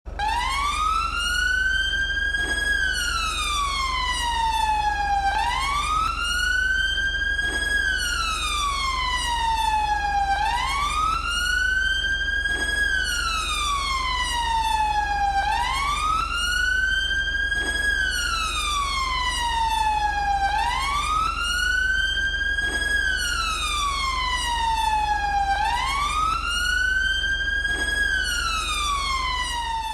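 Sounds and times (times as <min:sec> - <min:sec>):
police siren wailing: 0:00.1 - 0:29.9.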